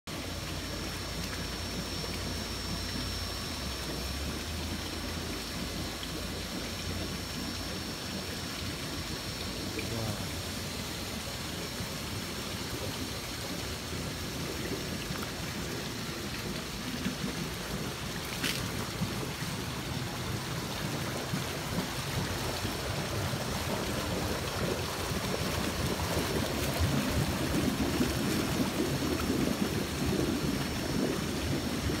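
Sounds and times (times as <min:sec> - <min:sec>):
spa jets churning: 0:00.1 - 0:32.0
water splashing from waterfall spouts: 0:00.1 - 0:32.0.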